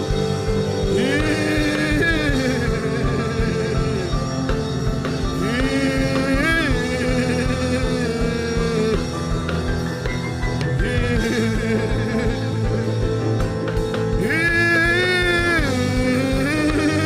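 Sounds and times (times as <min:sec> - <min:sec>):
instrumental accompaniment: 0:00.0 - 0:17.0
man singing long notes: 0:00.0 - 0:17.0.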